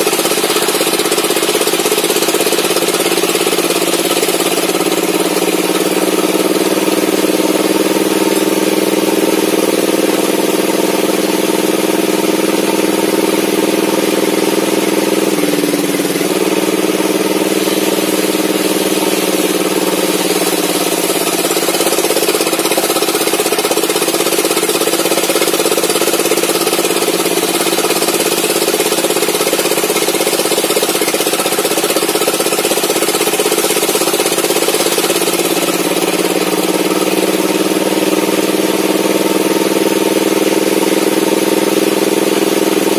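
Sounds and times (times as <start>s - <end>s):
engine droning: 0.0s - 42.9s.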